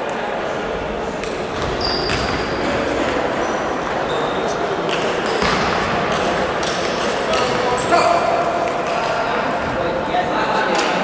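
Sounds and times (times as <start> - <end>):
hubbub of voices in hall: 0.0 - 11.0.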